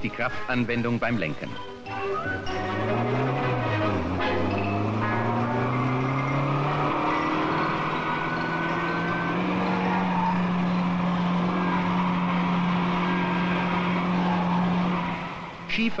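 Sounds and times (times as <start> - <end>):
road noise: 0.0 - 16.0
car engine running: 2.2 - 16.0.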